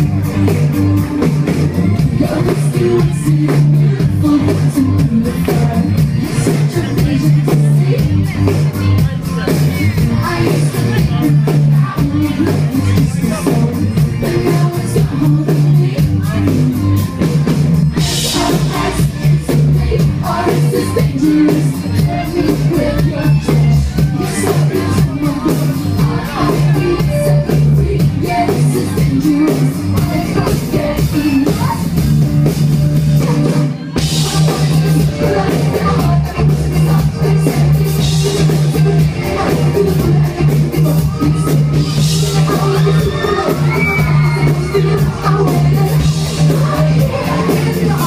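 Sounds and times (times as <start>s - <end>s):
live rock band playing loudly: 0.0s - 48.0s.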